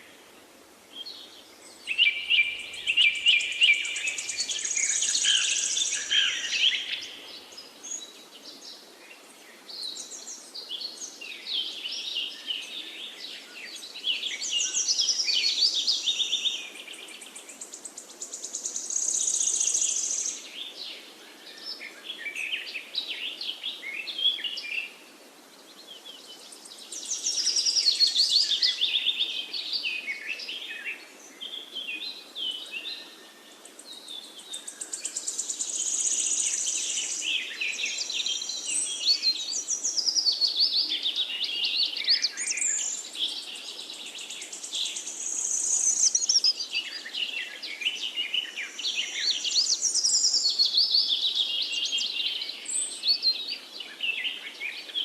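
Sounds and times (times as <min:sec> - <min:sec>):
background hiss: 0:00.0 - 0:55.0
songbirds chirping and trilling: 0:00.0 - 0:55.0.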